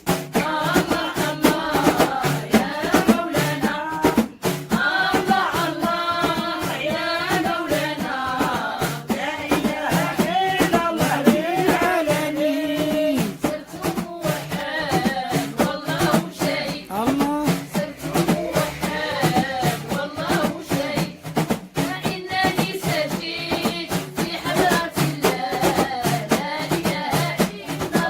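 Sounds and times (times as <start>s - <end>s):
drum beats: 0.0s - 28.0s
person singing devotional song: 0.3s - 28.0s.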